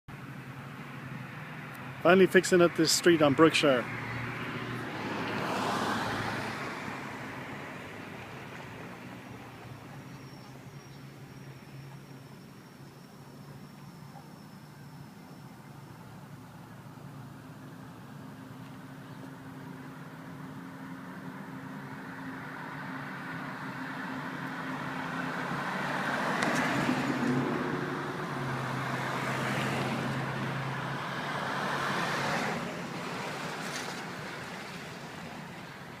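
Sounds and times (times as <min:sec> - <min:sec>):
low engine hum: 0:00.1 - 0:36.0
road noise: 0:00.1 - 0:36.0
vehicles passing: 0:00.1 - 0:36.0.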